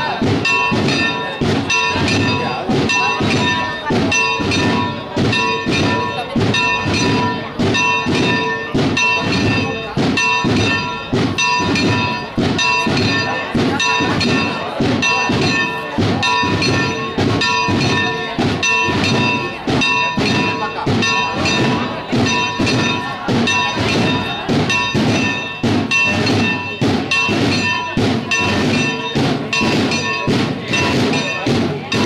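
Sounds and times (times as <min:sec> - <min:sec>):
church bells pealing: 0:00.0 - 0:32.0
crowd voices: 0:00.0 - 0:32.0.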